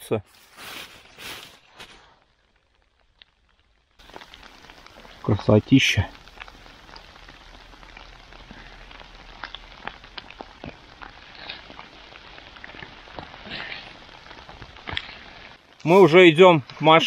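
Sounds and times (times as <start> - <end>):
rain falling: 0.3 - 17.0
ticks of raindrops: 0.6 - 17.0.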